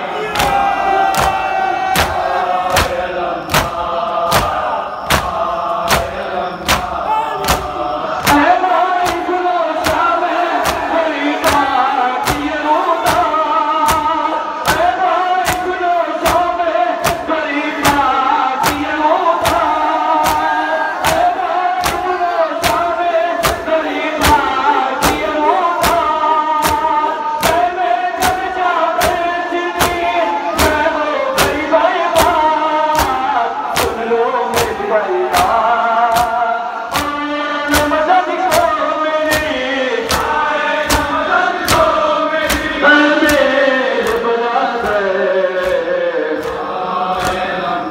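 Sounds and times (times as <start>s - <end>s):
men chanting in unison: 0.0s - 47.9s
hands slapping bare chests: 0.3s - 31.6s, 32.2s - 38.7s, 39.3s - 45.0s, 45.6s - 47.5s.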